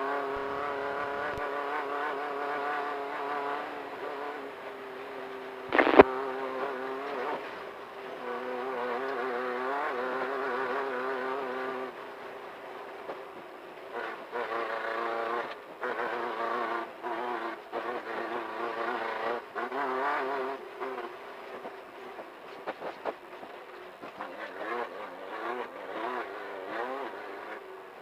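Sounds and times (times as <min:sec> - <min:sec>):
race car engine droning: 0:00.0 - 0:28.0.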